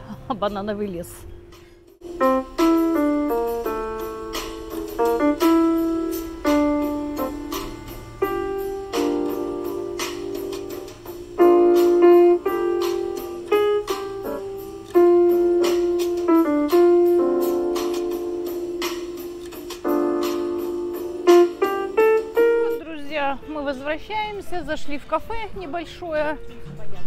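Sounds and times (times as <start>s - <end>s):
slow piano melody: 0.0s - 24.5s.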